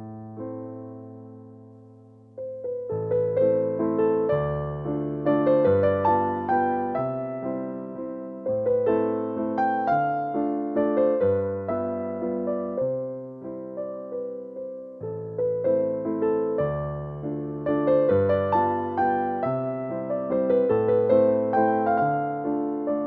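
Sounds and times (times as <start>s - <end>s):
electric piano melody: 0.0s - 23.0s.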